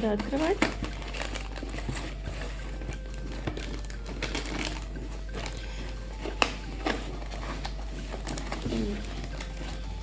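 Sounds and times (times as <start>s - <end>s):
rustling: 0.0s - 10.0s.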